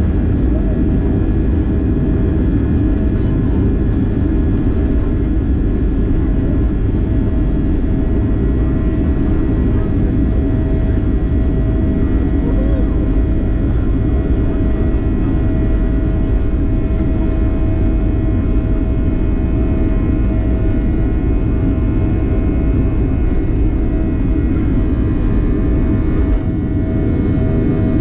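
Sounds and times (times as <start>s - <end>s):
jet engines rumbling from cabin: 0.0s - 28.0s.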